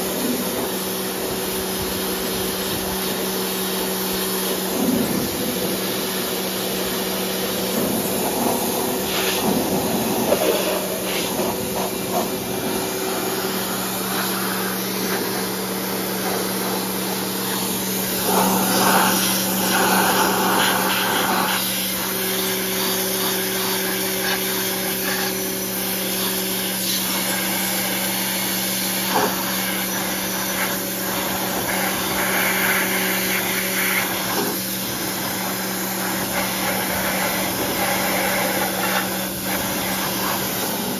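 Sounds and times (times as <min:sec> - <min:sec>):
pressure washer motor hum: 0:00.0 - 0:40.9
water jet hissing on metal: 0:00.0 - 0:40.9.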